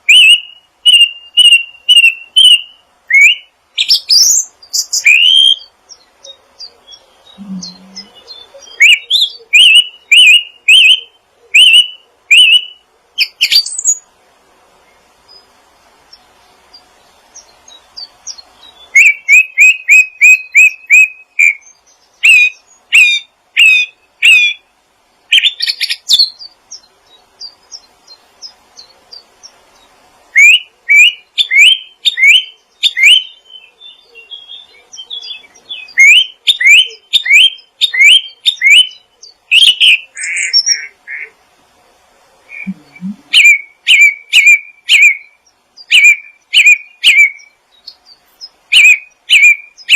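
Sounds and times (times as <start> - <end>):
songbird chirping: 0.0 - 49.9.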